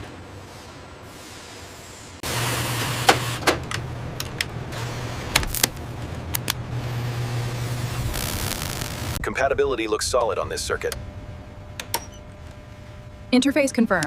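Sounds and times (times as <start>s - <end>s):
machinery low hum: 0.0s - 14.0s.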